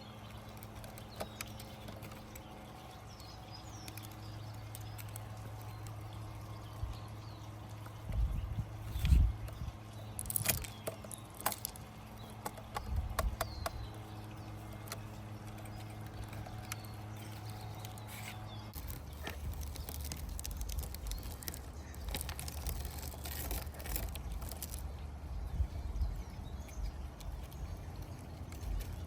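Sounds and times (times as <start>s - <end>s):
small hard parts clicking: 0.0s - 25.4s, 26.6s - 29.0s
low hum and rumble: 0.0s - 29.0s.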